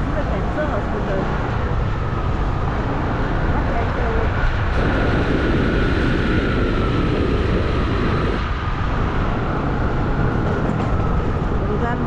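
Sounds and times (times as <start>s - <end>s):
road noise from moving bike: 0.0s - 12.0s
wind buffeting microphone: 0.0s - 12.0s.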